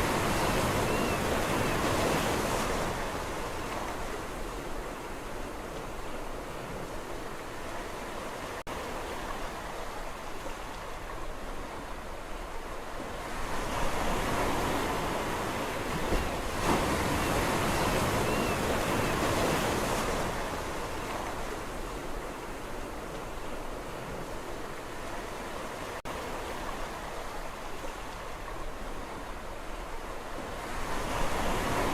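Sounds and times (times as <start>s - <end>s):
sea waves washing on shore: 0.0s - 31.9s.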